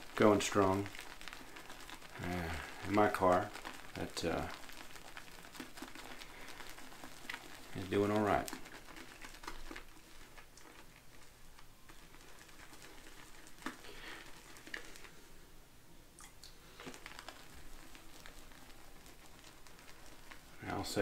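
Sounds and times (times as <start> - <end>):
squishy rustling of shaving soap: 0.0 - 15.5, 16.5 - 21.0.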